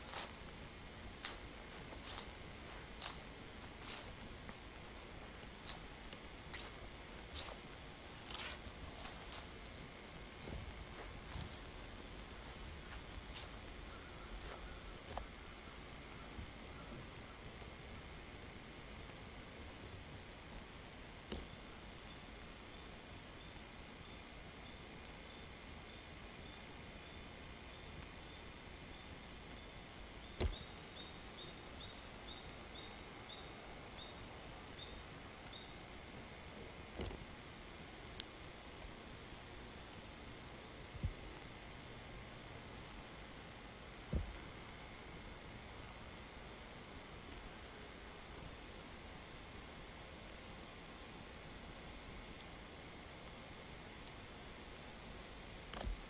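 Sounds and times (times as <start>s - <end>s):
faint ticks and rustles: 0.0s - 24.3s, 25.0s - 56.0s
crickets trilling: 0.0s - 56.0s.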